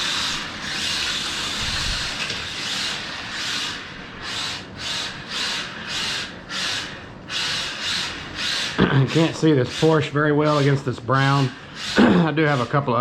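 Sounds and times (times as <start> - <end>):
small electric motor whirring: 0.0 - 13.0
tyres scrubbing on wooden floor: 0.0 - 13.0.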